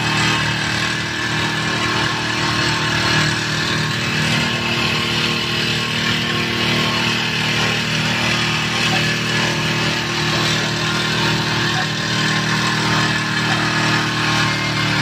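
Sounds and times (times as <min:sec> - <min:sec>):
small four-stroke engine running: 0:00.0 - 0:15.0.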